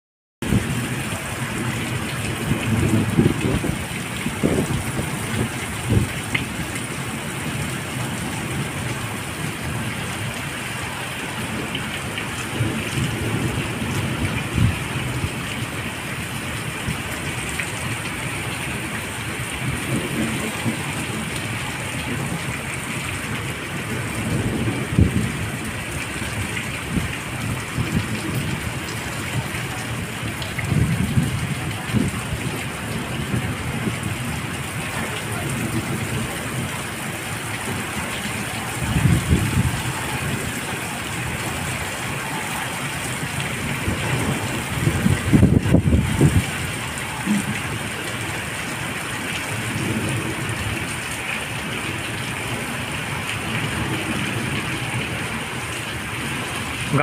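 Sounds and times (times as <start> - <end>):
heavy rain on concrete: 0.4 - 57.0.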